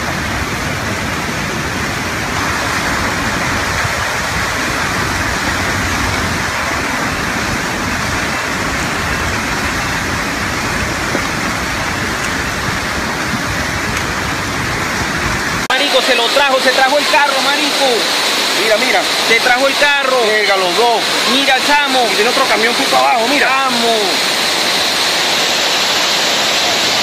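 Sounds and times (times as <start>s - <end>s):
flash flood water rushing: 0.0s - 27.0s.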